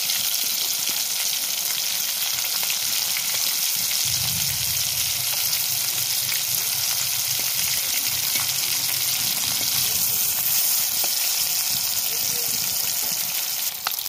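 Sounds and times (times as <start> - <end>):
oil sizzling in wok: 0.0 - 14.0.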